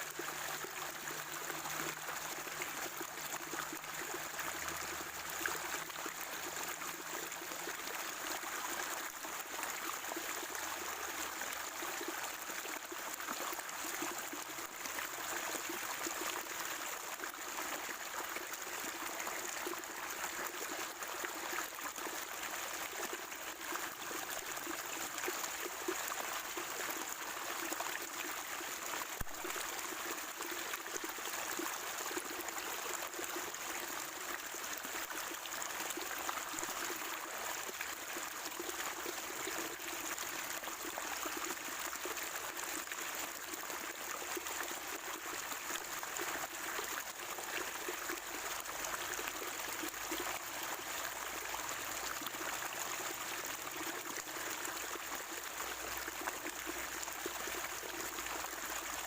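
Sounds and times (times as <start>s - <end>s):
spring water trickling and gurgling: 0.0s - 59.0s.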